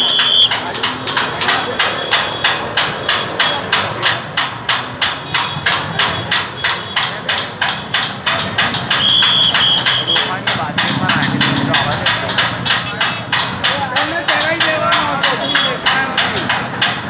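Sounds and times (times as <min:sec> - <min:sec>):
rhythmic sharp knocks: 0:00.0 - 0:17.0.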